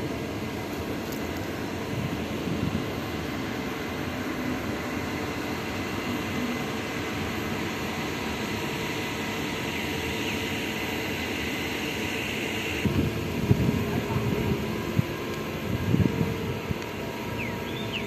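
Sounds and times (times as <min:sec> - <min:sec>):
even rush of outdoor noise: 0:00.0 - 0:18.0.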